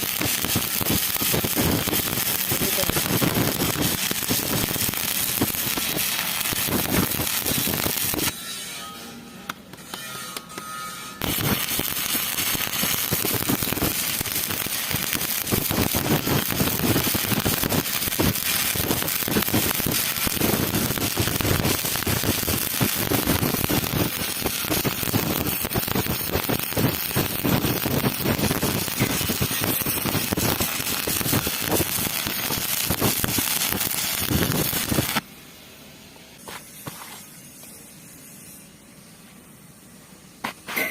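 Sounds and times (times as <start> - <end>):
welding arc crackling: 0.0 - 8.4, 9.5 - 35.2.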